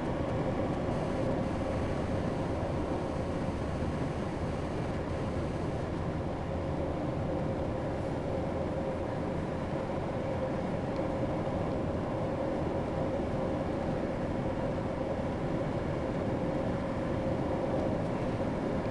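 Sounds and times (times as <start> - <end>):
car engine and tyre noise: 0.0 - 18.9
constant hum: 0.0 - 18.9.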